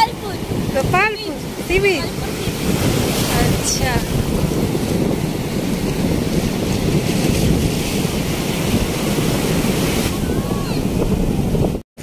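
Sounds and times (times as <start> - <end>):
surf breaking ashore: 0.0 - 11.8
wind buffeting microphone: 0.0 - 11.8.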